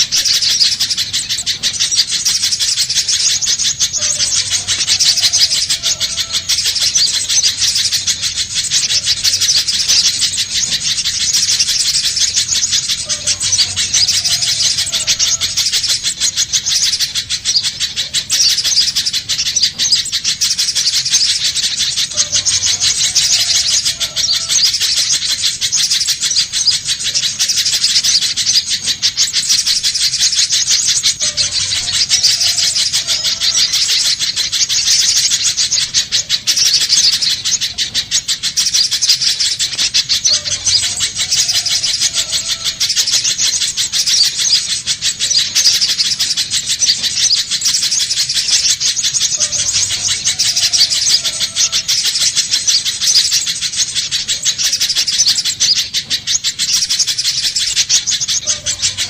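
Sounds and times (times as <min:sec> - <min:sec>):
bird chattering high-pitched: 0:00.0 - 0:59.0.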